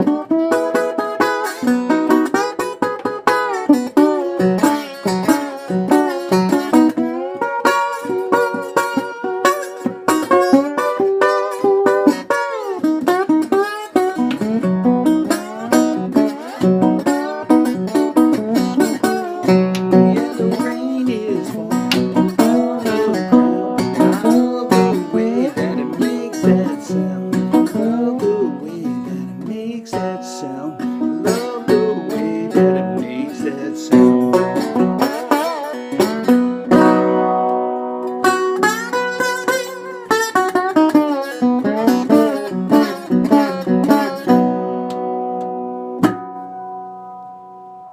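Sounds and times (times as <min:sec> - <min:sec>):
plucked string instrument: 0:00.0 - 0:47.9.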